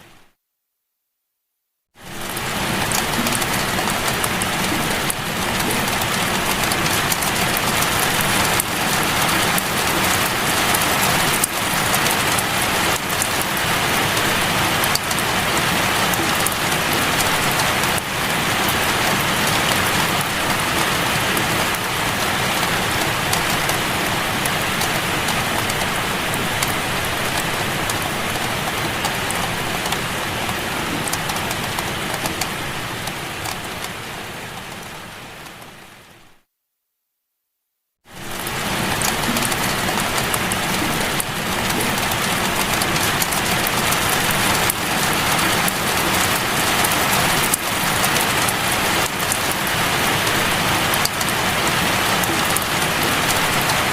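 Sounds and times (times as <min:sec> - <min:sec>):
heavy rain: 0:02.0 - 0:36.4, 0:38.0 - 0:53.9.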